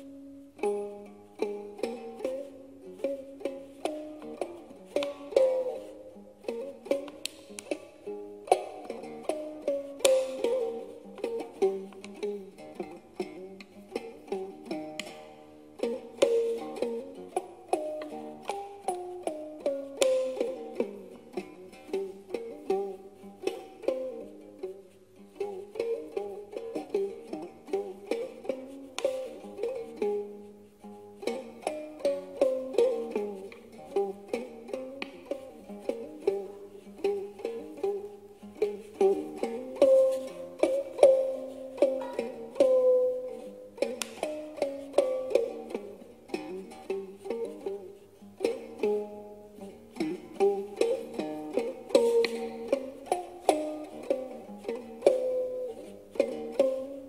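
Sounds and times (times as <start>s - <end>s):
plucked zither melody: 0.0s - 57.0s.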